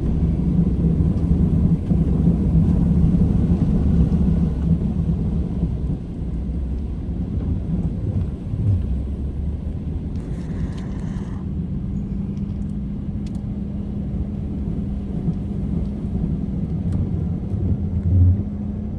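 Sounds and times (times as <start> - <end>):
car engine and road rumble: 0.0 - 18.9.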